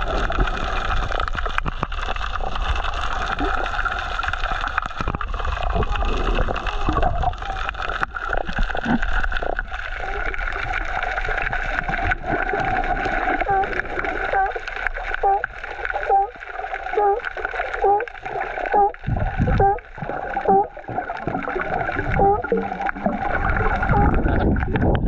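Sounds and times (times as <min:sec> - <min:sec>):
water gurgling and sloshing: 0:00.0 - 0:25.0.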